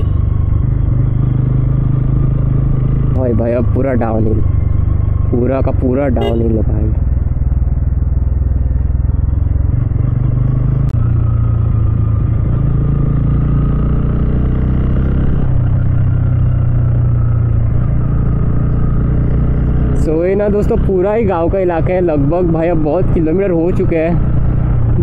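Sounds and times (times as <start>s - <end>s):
motorcycle engine running: 0.0s - 25.0s
road noise: 0.0s - 25.0s.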